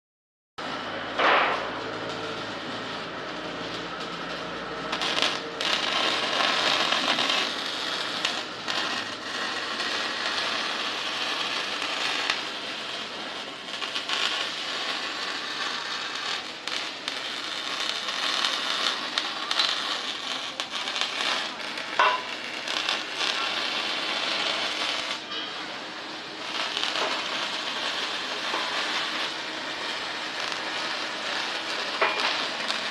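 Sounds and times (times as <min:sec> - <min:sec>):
electric welding crackling: 0:00.6 - 0:32.9.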